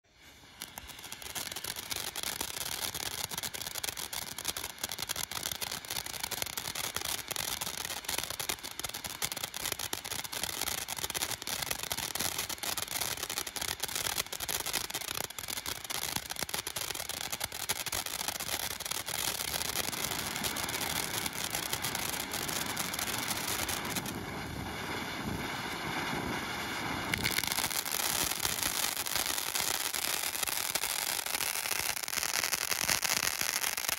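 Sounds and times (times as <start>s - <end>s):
firework fountain hissing and crackling: 0.0s - 33.9s.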